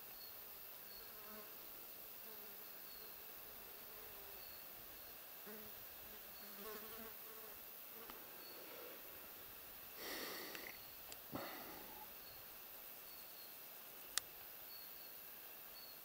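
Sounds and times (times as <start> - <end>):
flying insects buzzing: 0.2 - 16.0.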